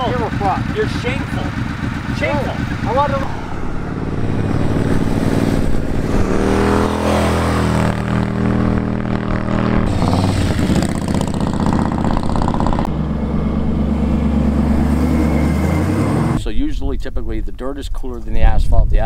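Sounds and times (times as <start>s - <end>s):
motorcycles riding past: 0.0s - 16.4s.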